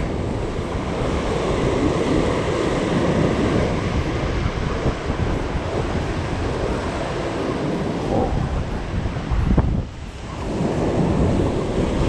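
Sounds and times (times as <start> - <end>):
surf breaking over rocks: 0.0 - 12.0
wind buffeting microphone: 0.0 - 12.0.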